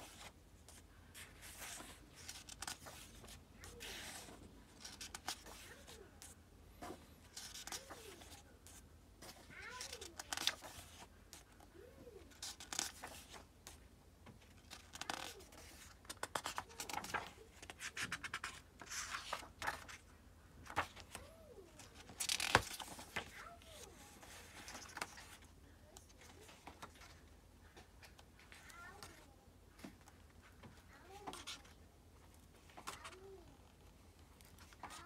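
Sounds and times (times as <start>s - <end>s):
book pages turning: 0.0s - 29.2s, 29.8s - 35.0s.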